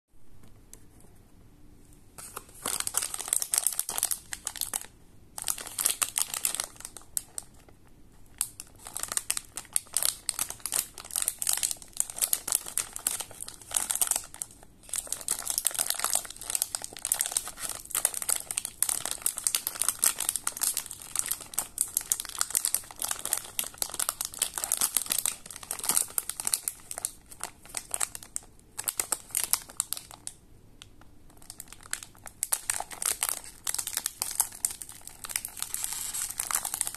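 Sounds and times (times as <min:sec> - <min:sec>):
plastic wrapper crinkling: 0:02.2 - 0:36.9.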